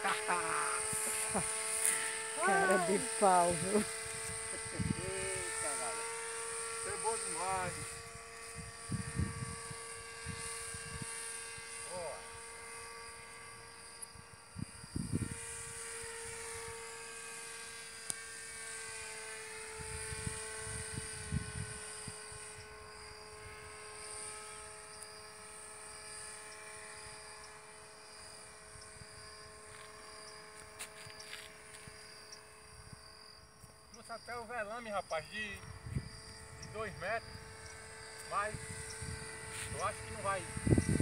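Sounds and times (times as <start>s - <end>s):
model aircraft motor buzzing: 0.0s - 41.0s.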